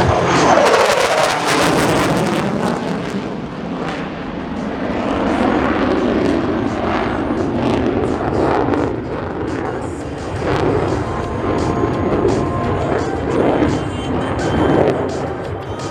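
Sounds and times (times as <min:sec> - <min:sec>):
fighter jet engine roaring: 0:00.0 - 0:15.9.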